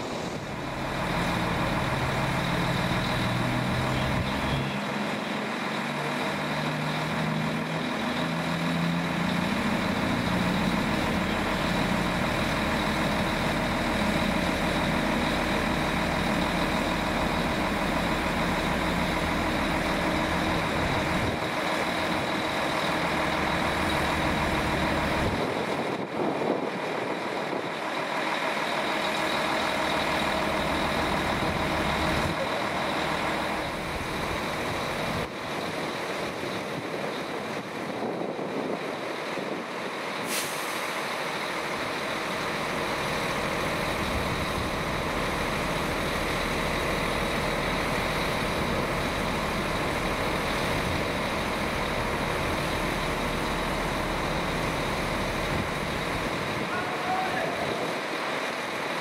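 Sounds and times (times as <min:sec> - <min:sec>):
train engine running: 0:00.0 - 0:59.0.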